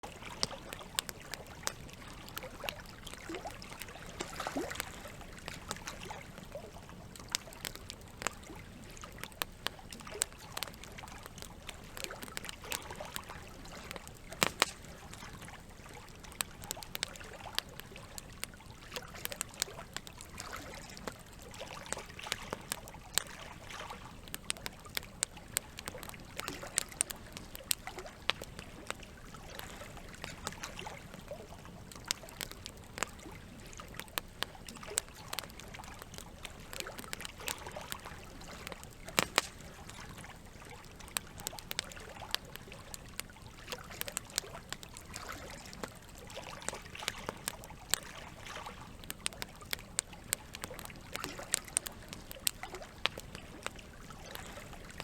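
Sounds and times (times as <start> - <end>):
campfire crackling and popping: 0.0 - 55.0
water flowing: 0.0 - 55.0.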